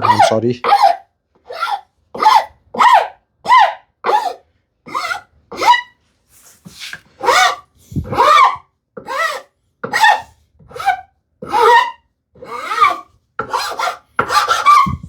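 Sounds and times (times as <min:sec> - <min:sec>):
hand file scraping wood: 0:00.0 - 0:15.0.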